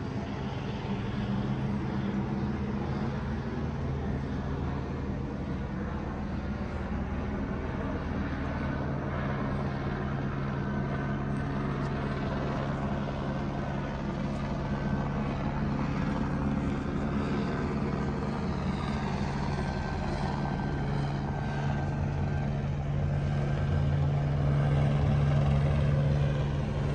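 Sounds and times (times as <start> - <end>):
helicopter rotor drone: 0.0 - 26.9.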